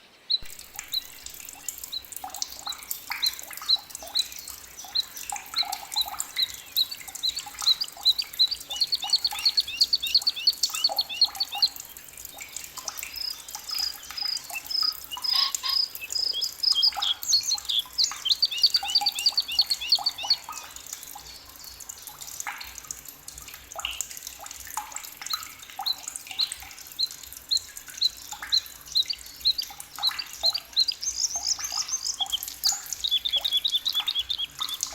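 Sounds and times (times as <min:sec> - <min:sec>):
birds trilling and singing: 0:00.0 - 0:20.8, 0:25.8 - 0:34.9.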